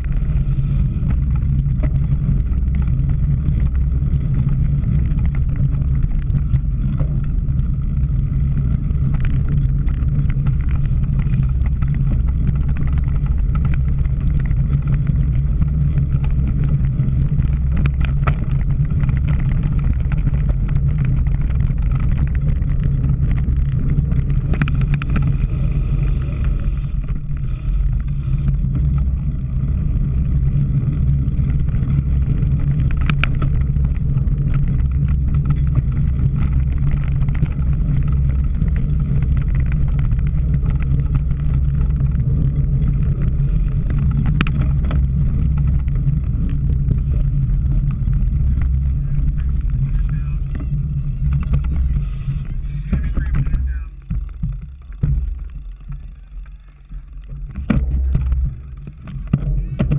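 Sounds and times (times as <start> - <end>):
bicycle riding noise: 0.0 - 59.9
wind buffeting microphone: 0.0 - 59.9.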